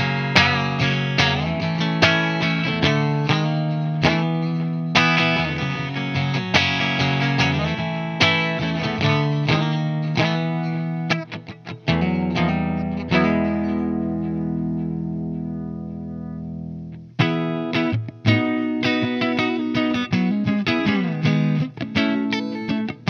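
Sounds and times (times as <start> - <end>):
electric guitar chords: 0.0 - 23.0.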